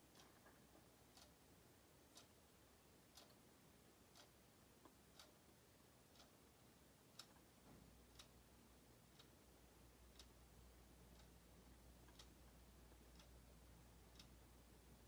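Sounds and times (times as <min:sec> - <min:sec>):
wall clock ticking faintly: 0:00.0 - 0:15.0.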